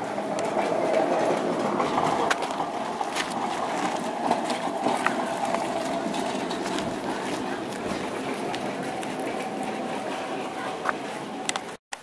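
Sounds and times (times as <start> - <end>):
bicycle tyre rumble: 0.0 - 11.8.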